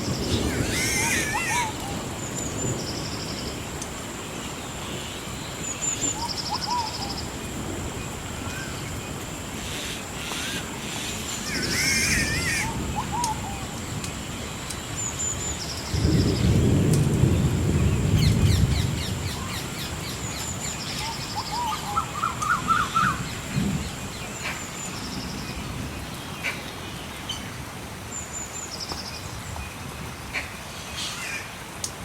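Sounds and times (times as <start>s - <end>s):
birds chirping and warbling: 0.0s - 3.6s, 4.2s - 31.6s
low thunder rumble: 0.0s - 28.0s.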